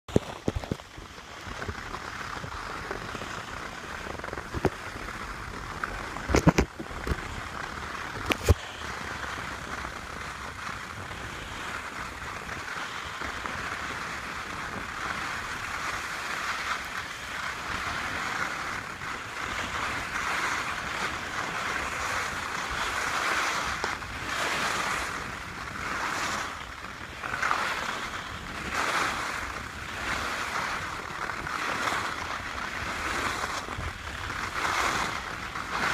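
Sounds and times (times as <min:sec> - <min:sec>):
skis scraping over snow: 0:00.1 - 0:35.9.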